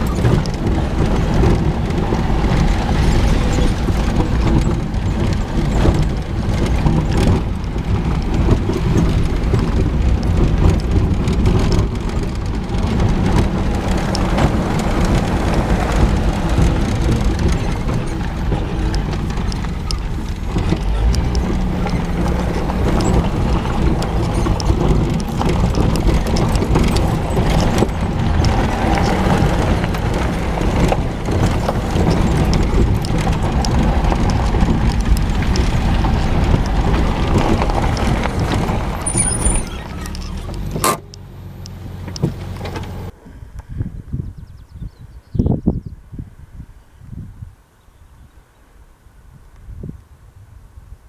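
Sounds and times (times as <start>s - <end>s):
rattling and knocks: 0.0s - 43.1s
vehicle engine and tyre noise: 0.0s - 51.0s.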